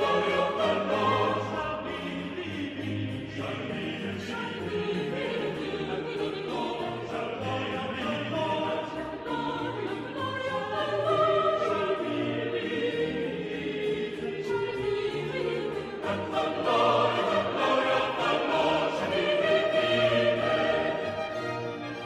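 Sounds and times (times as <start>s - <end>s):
choir singing long notes: 0.0s - 22.0s.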